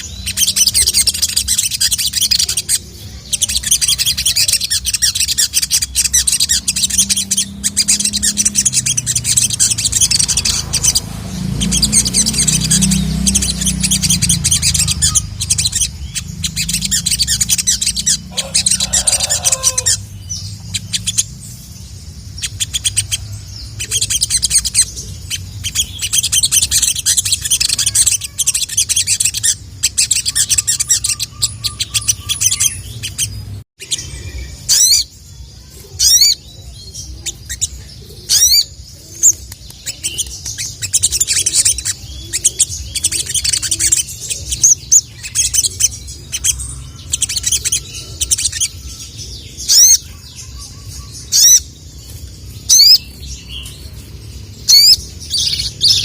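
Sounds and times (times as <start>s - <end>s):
sharp falling bird calls: 0.0s - 56.0s
sunbird chattering song: 0.0s - 56.0s.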